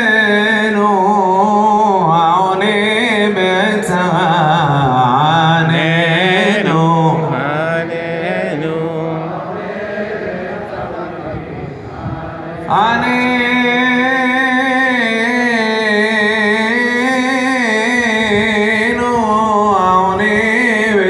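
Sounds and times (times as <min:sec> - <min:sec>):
man chanting: 0:00.0 - 0:21.0.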